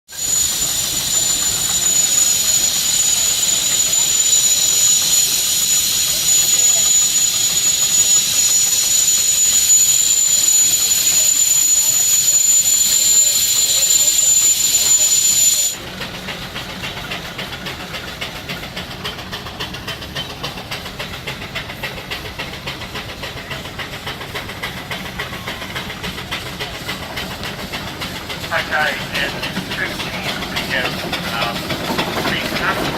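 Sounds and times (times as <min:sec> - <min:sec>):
steam hissing: 0:00.1 - 0:32.9.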